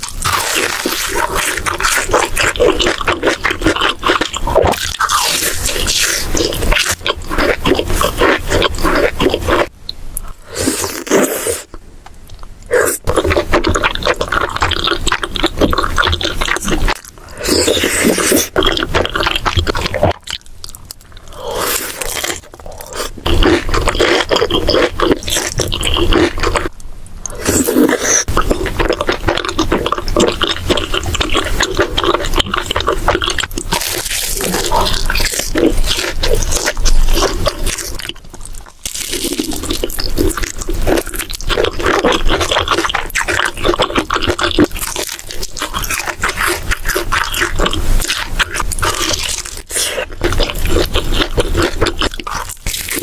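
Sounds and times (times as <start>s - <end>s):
crunchy chewing: 0.0s - 53.0s.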